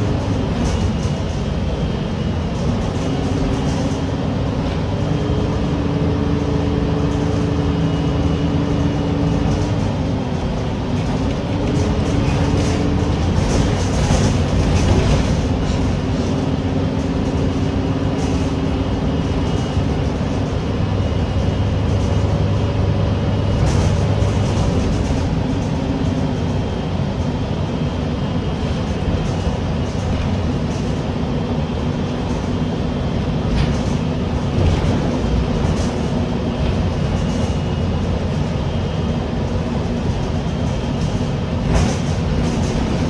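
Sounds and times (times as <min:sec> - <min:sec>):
bus engine drone with whine: 0:00.0 - 0:43.0
road noise: 0:00.0 - 0:43.0.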